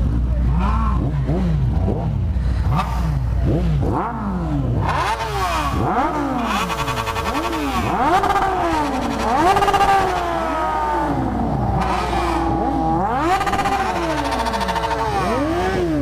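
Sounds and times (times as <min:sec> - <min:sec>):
motorcycles revving hard: 0:00.0 - 0:16.0.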